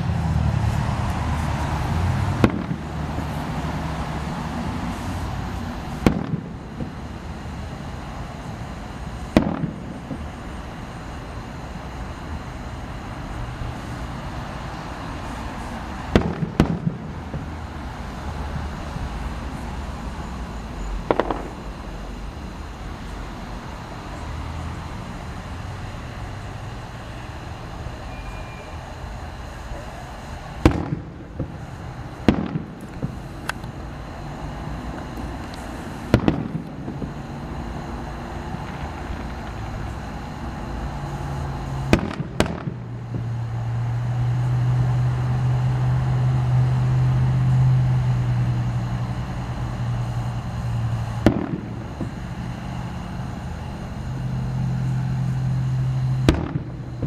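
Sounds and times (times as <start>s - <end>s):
fireworks sharp reports: 0.0s - 57.0s
steady low hum: 0.0s - 57.0s.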